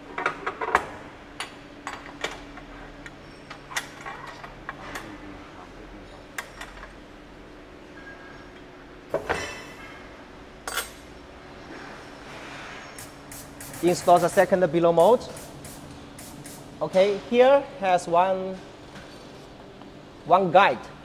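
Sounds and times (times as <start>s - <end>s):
faint machine hum: 0.0s - 21.0s.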